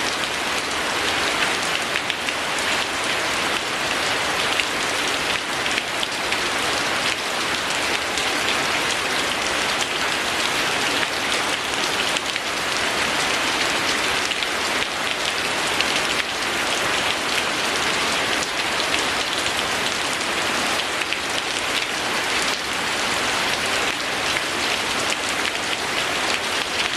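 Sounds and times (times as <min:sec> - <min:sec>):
steady rain patter: 0:00.0 - 0:26.9.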